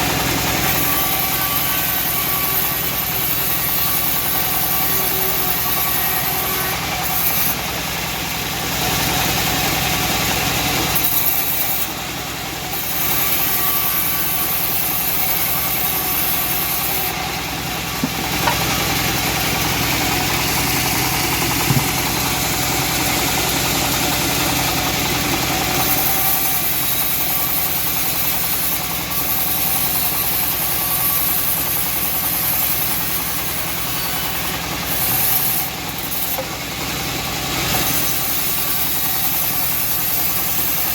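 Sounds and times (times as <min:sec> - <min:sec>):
saw blade hissing through wood: 0:00.0 - 0:07.8, 0:12.7 - 0:36.6, 0:37.6 - 0:40.9
bandsaw motor drone: 0:00.0 - 0:40.9.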